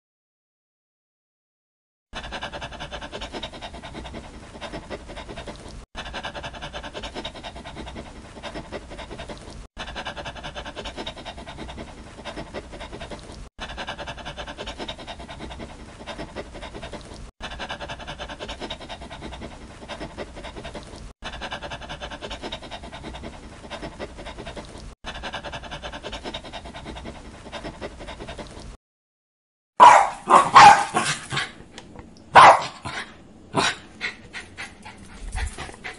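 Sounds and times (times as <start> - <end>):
dog sounds: 2.2 - 28.8, 29.8 - 35.9.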